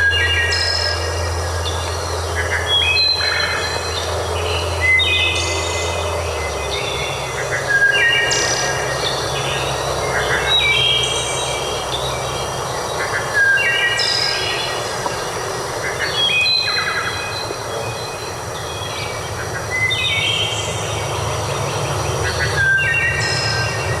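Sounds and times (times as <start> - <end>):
songbirds whistling: 0.0 - 24.0.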